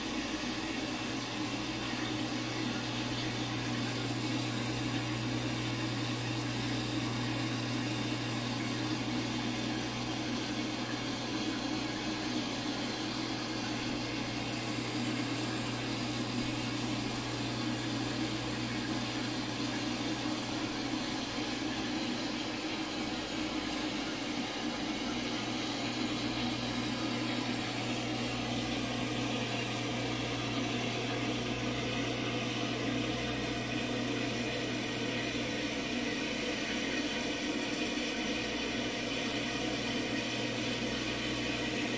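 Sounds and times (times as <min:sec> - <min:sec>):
steady low hum with hiss: 0:00.0 - 0:41.9.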